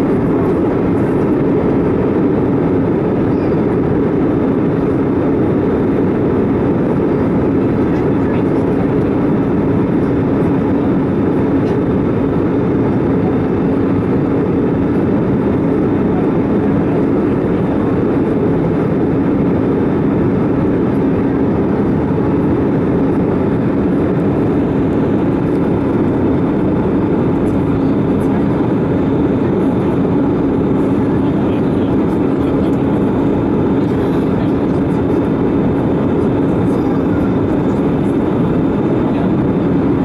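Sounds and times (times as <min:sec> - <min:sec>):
airplane cabin engine drone: 0:00.0 - 0:40.0.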